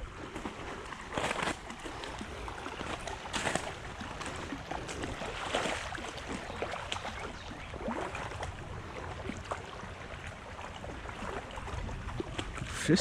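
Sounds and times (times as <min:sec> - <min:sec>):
creek water splashing and trickling: 0:00.0 - 0:13.0.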